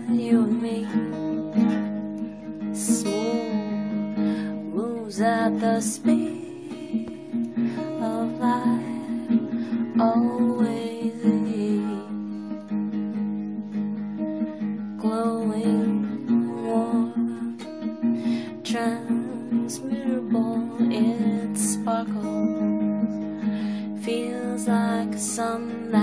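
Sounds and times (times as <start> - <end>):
acoustic guitar strumming chords: 0.0 - 26.0
sliding guitar melody: 0.0 - 26.0.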